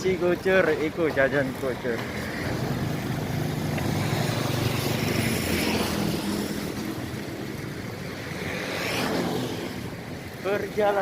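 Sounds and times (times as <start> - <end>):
vehicle engine humming: 0.0 - 11.0
wind and road noise: 0.0 - 11.0.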